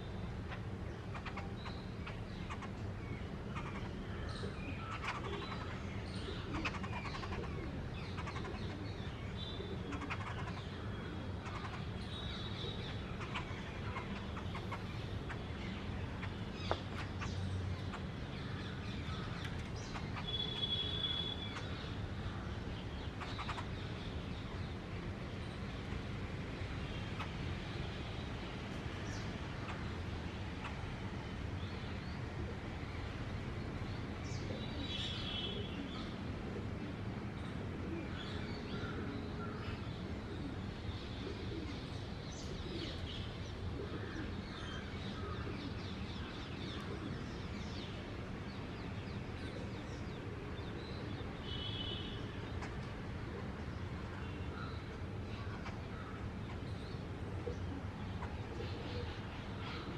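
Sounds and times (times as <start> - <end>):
birds calling: 0.0 - 33.2, 34.0 - 36.6, 37.4 - 59.9.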